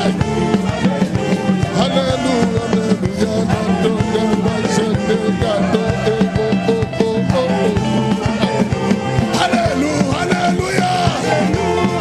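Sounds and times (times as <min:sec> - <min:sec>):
gospel band playing: 0:00.0 - 0:12.0
people singing: 0:00.0 - 0:12.0.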